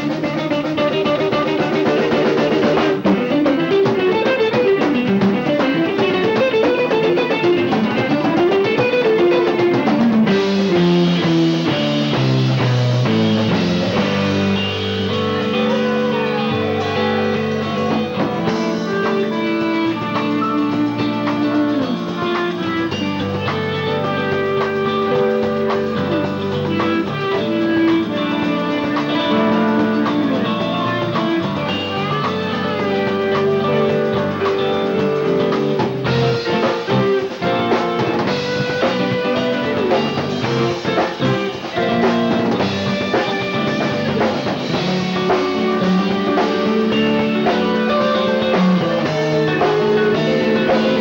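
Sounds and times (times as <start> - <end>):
guitar bending notes: 0.0 - 51.0
live rock band playing: 0.0 - 51.0.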